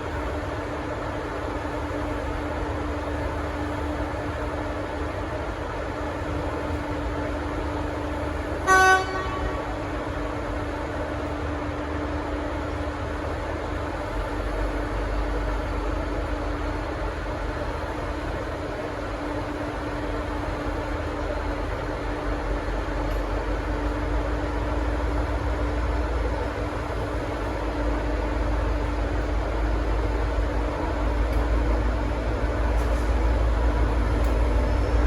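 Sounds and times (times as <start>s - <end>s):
diesel locomotive idling: 0.0s - 35.0s.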